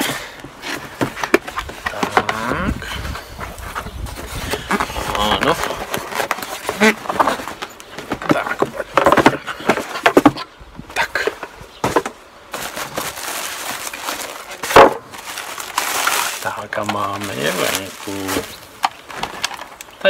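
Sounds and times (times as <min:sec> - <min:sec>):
cardboard sliding and scraping: 0:00.0 - 0:10.5, 0:11.1 - 0:19.6.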